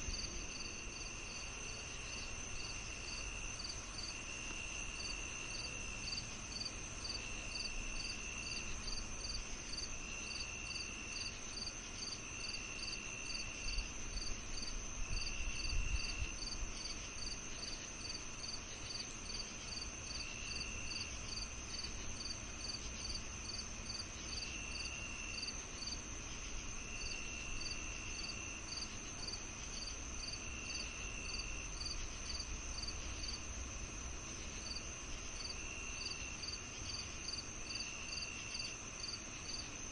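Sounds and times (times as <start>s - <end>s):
high insect trill: 0.0s - 39.9s
lower insect trill: 0.0s - 39.9s.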